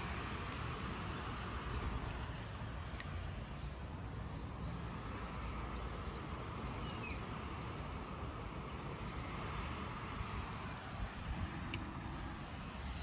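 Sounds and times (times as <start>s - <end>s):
steady low background noise: 0.0s - 13.0s.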